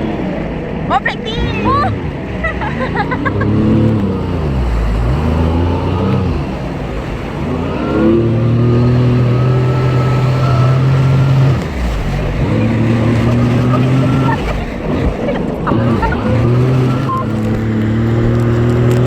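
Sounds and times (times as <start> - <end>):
jet ski engine revving: 0.0 - 19.0
water and wind rushing: 0.0 - 19.0.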